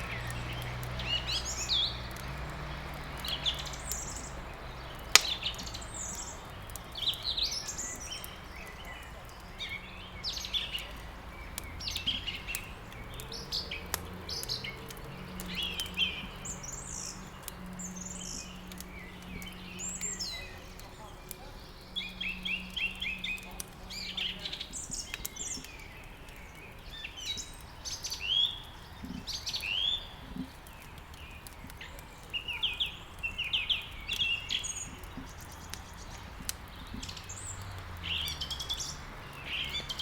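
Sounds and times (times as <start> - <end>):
songbirds chirping: 0.0 - 40.0
wood crackling in fireplace: 0.0 - 40.0.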